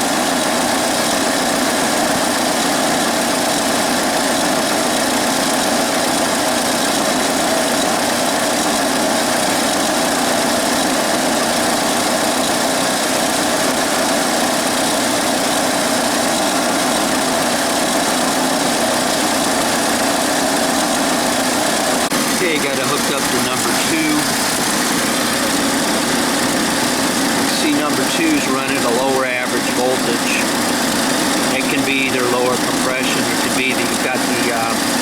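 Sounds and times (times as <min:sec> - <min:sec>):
engine idling with misfire: 0:00.0 - 0:35.0.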